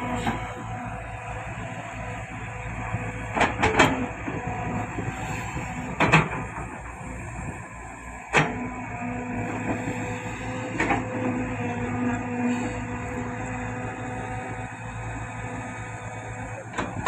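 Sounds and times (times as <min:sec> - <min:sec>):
diesel machinery running: 0:00.0 - 0:17.0.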